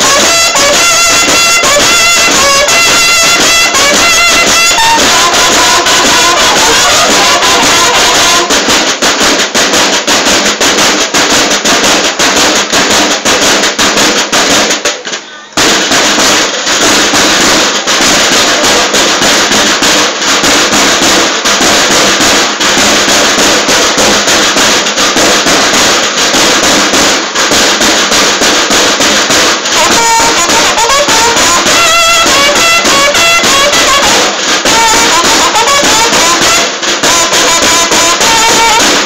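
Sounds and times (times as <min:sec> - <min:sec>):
snare drums marching cadence: 0:00.0 - 0:39.0.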